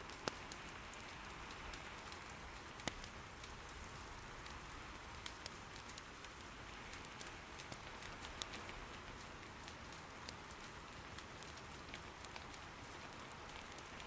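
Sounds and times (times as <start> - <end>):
firewood crackling: 0.0 - 14.0
soft rain patter: 0.0 - 14.0.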